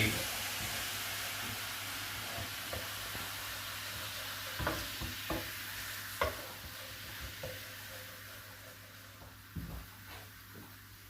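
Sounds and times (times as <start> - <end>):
liquid sizzling in frying pan: 0.0 - 11.0.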